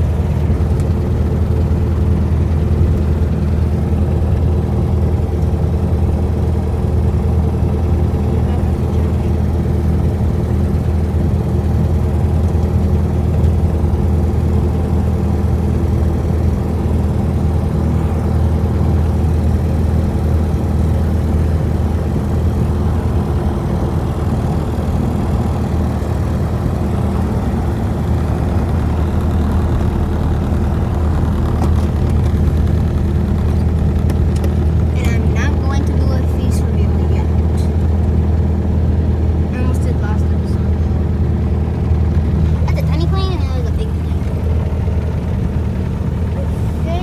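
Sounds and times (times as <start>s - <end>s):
light aircraft engine drone: 0.0s - 47.0s.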